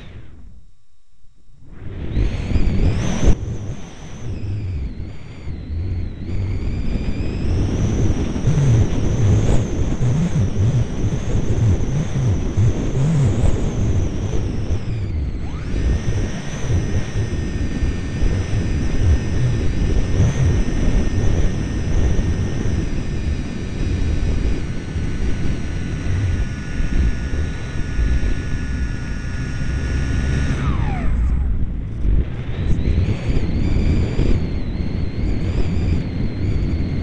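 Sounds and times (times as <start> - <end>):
wind rush: 1.6 - 37.0
model airplane motor whining: 1.7 - 37.0.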